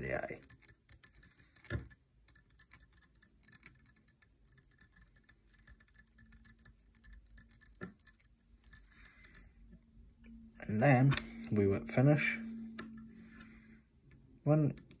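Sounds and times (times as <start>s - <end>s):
light ticks and clicks of tools: 0.0s - 10.4s, 12.5s - 15.0s.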